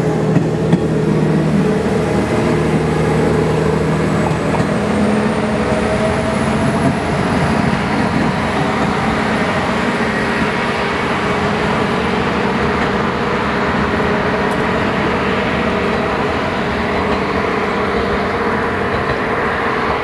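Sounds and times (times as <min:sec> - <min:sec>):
train running: 0:00.0 - 0:20.0.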